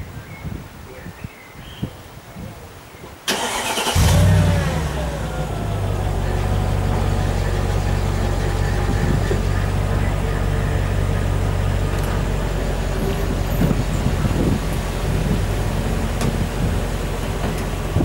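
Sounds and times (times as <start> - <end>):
car engine idling: 3.3 - 18.0.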